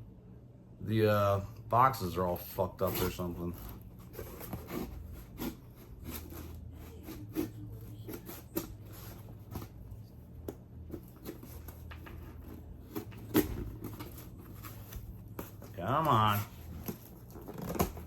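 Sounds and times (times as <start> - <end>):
cardboard box handled and opened: 2.6 - 18.0.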